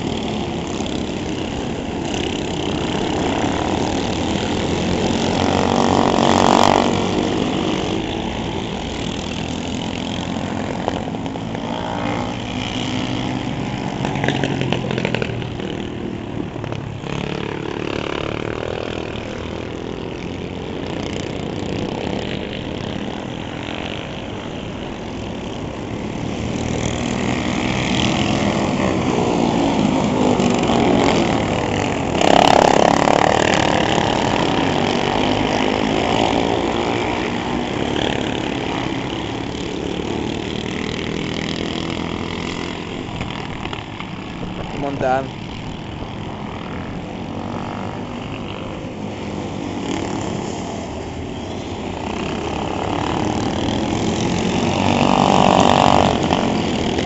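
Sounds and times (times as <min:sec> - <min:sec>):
kart engines racing past: 0:00.0 - 0:57.0.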